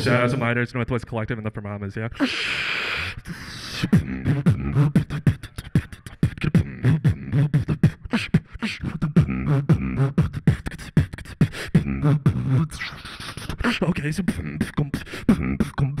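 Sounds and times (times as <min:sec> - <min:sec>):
beatboxing through microphone: 0:02.2 - 0:16.0.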